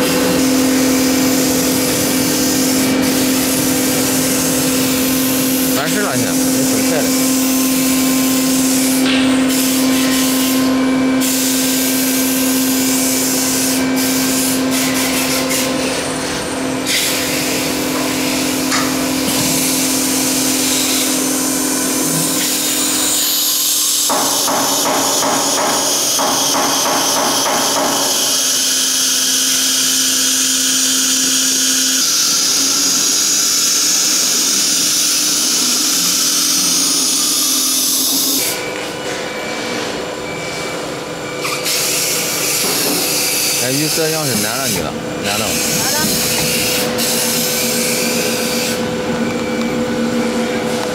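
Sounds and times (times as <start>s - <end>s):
router spindle whine: 0.0s - 24.6s, 28.1s - 50.9s.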